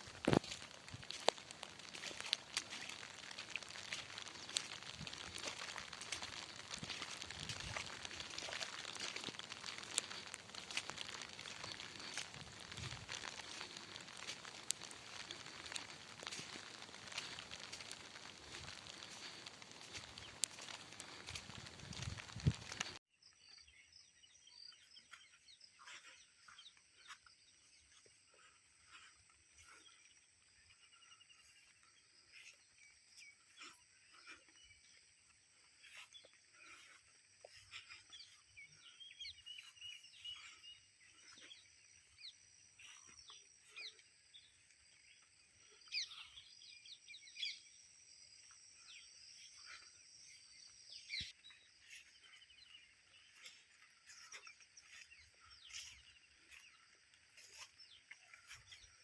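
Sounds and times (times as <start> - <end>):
bird chirps: 0.2 - 59.0.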